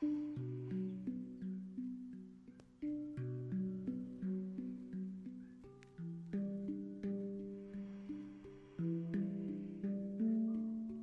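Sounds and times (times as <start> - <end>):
handpan notes ringing: 0.0 - 11.0.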